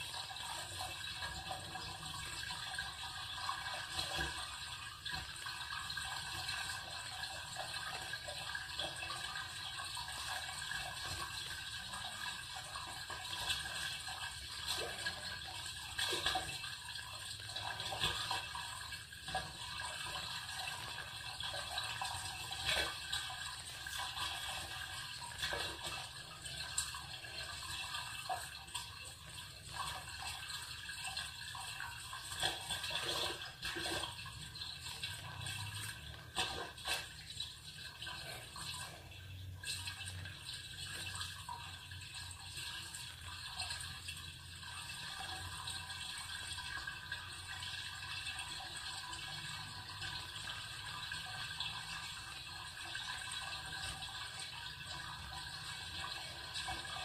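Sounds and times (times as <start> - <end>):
water splashing in sewer: 0.0 - 57.0.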